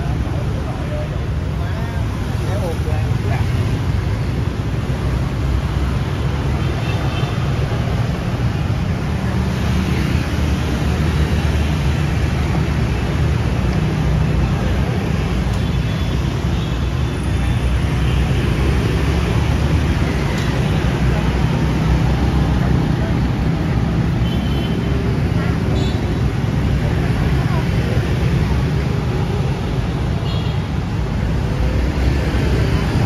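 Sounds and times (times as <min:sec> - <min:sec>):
city street traffic: 0:00.0 - 0:33.0.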